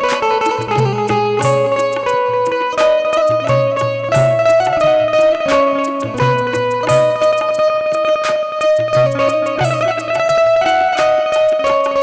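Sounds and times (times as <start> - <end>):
melody instrument holding notes: 0.0 - 12.0
tabla strokes: 0.0 - 12.0.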